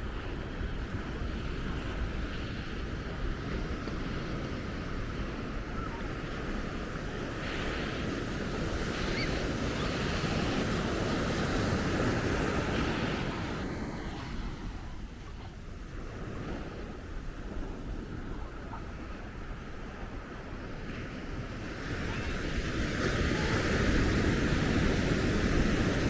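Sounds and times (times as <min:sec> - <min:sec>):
ocean surf on sand: 0:00.0 - 0:26.0
wind buffeting microphone: 0:00.0 - 0:26.0.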